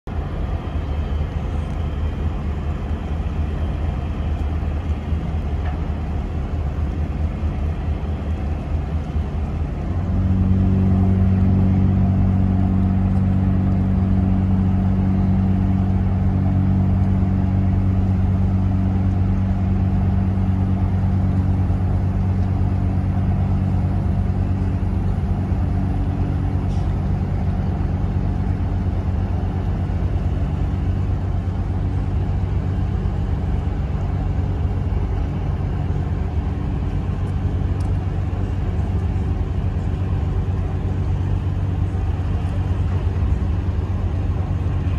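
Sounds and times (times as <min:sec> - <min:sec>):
ship engine droning: 0:00.1 - 0:44.9.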